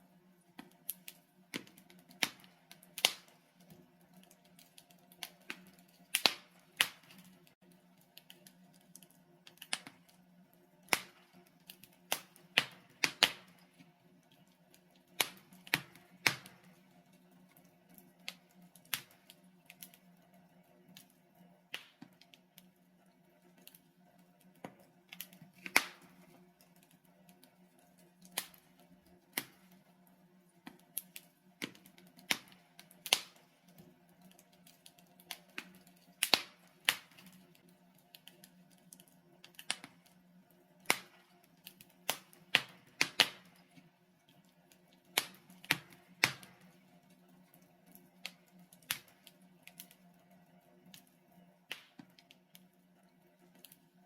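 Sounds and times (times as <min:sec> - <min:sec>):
log fire crackling and popping: 0:00.3 - 0:54.0.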